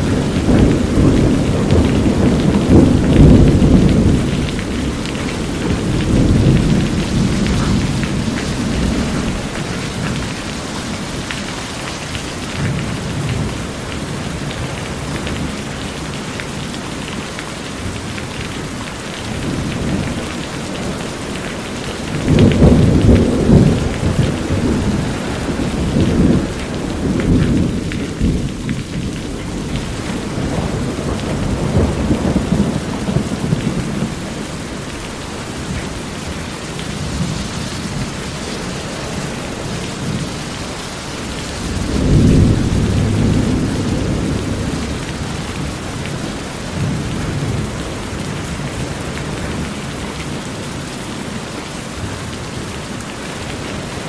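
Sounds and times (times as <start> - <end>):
low rolling thunder: 0.0 - 11.4, 17.8 - 50.4
heavy rain on metal roof: 0.0 - 54.0
water pouring off roof edge: 0.0 - 54.0.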